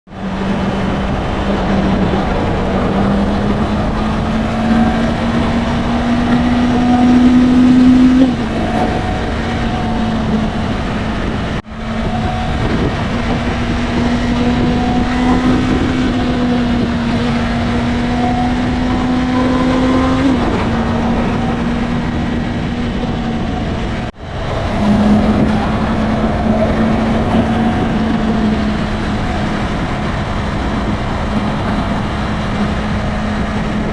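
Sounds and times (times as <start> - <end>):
wind and road noise: 0.0 - 33.9
motorcycle engine running: 0.2 - 33.9.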